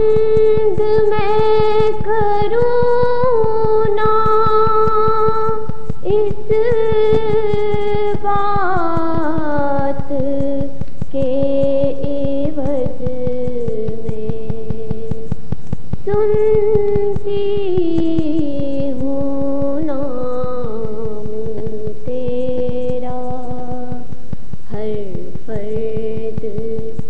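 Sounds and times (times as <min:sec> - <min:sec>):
woman singing long held notes: 0:00.0 - 0:15.4, 0:16.0 - 0:27.0.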